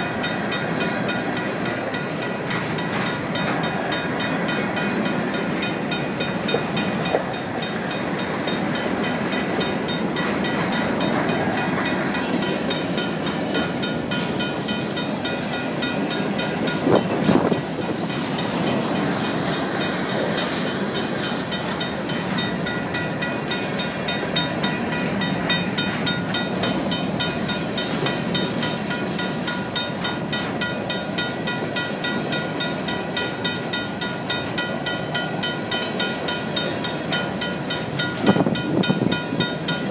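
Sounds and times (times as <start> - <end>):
crossing bell ringing: 0.0 - 39.9
train wheels rumbling on rail: 0.0 - 39.9.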